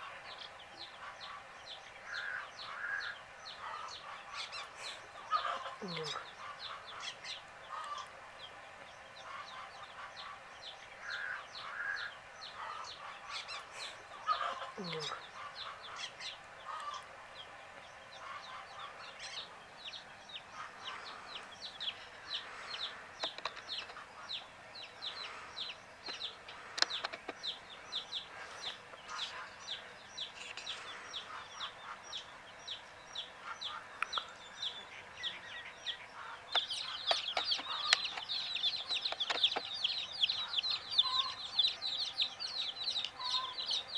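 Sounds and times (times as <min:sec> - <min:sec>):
baby chicks peeping: 0:00.0 - 0:43.9.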